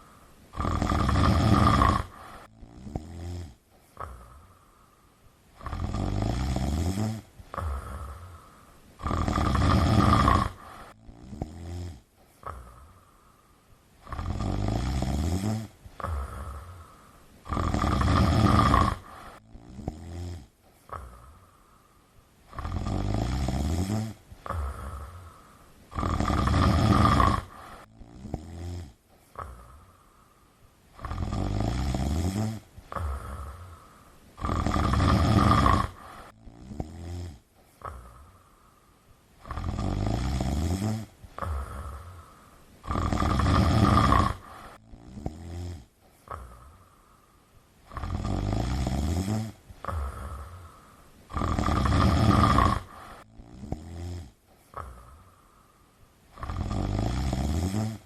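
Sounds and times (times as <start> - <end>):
cat snoring: 0.0 - 4.6, 5.6 - 13.0, 14.0 - 21.5, 22.5 - 30.0, 30.9 - 38.4, 39.4 - 46.9, 47.8 - 55.3, 56.3 - 58.0.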